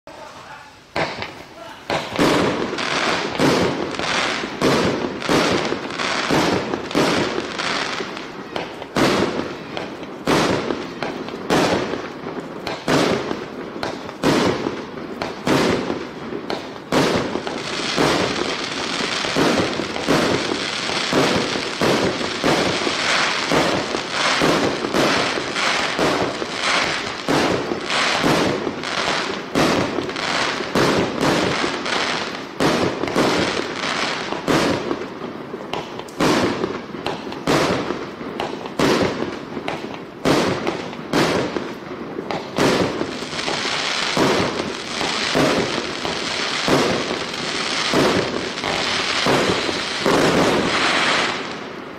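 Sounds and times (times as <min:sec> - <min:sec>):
crackling fireworks stars: 0:00.0 - 0:51.9
fireworks launching and bursting: 0:00.1 - 0:51.9.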